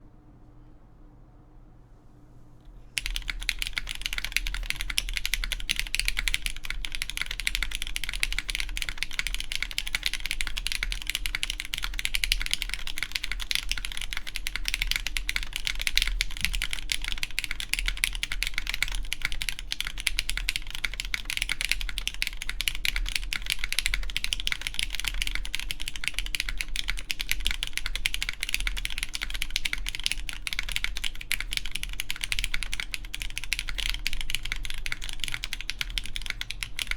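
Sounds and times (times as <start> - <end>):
fast typing on mechanical keyboard: 3.0 - 36.9.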